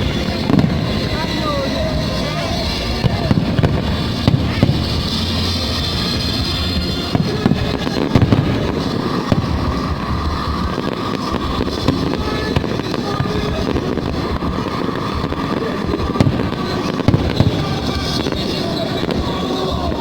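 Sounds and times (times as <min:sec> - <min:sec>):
fireworks bursting and crackling: 0:00.0 - 0:20.0
loud firework bangs: 0:00.0 - 0:20.0.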